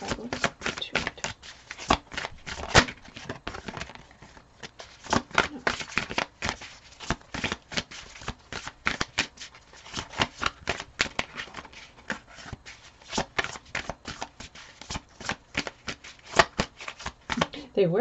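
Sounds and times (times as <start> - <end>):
cards shuffled by hand: 0.0 - 17.6.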